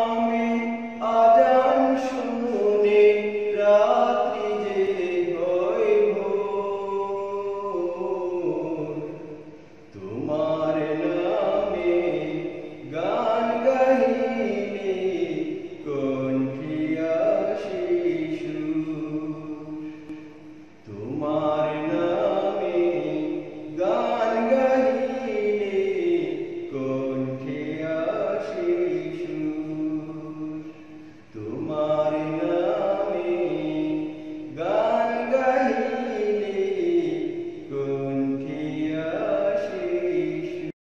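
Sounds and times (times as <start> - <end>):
person chanting a devotional song: 0.0 - 40.8.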